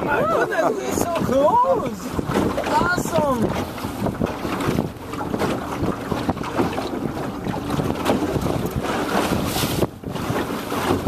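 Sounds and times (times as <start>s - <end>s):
choppy sea water: 0.0s - 11.0s
wind buffeting microphone: 0.0s - 11.0s.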